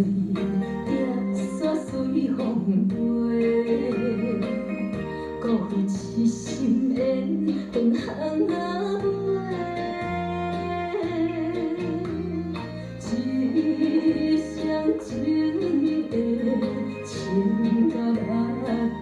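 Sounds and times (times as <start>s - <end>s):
pop song with tango rhythm: 0.0s - 19.0s.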